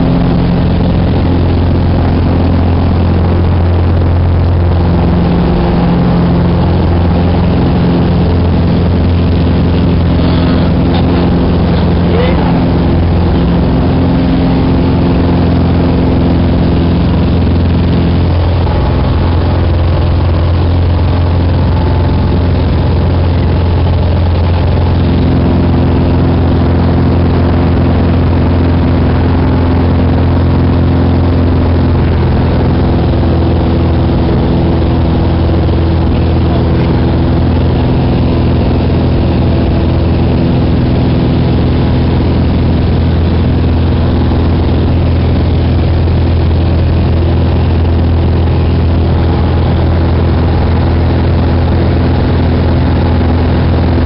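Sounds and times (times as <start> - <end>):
light aircraft engine hum: 0.0 - 54.0.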